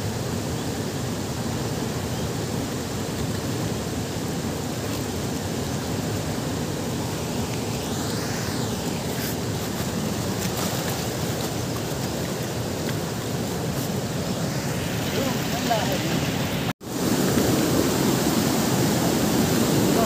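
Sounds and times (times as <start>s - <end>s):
river rushing over rocks: 0.1s - 20.0s.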